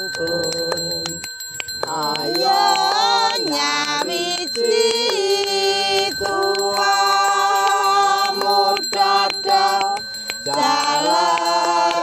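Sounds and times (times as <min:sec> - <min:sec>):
hand bell ringing: 0:00.0 - 0:12.0.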